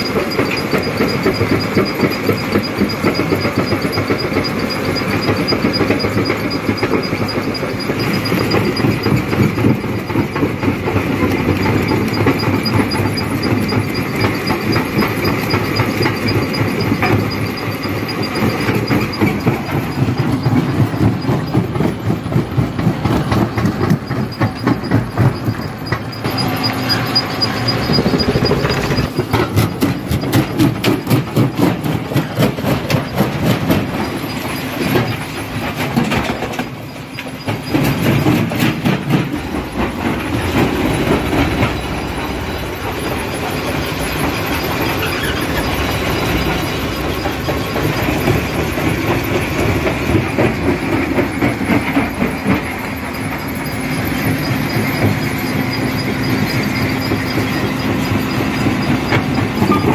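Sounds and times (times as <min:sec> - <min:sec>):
rock crusher clattering: 0:00.1 - 0:59.9.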